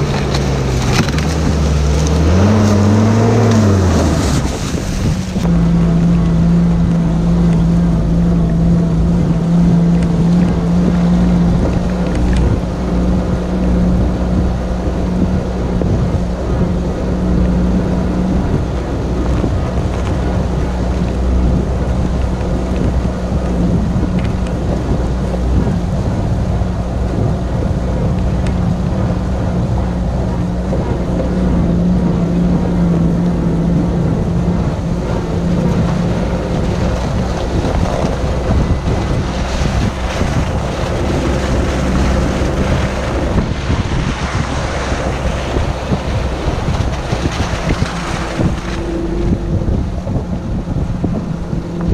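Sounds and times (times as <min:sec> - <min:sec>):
off-road vehicle engine drone: 0:00.0 - 0:51.9
wind noise on microphone: 0:00.0 - 0:51.9.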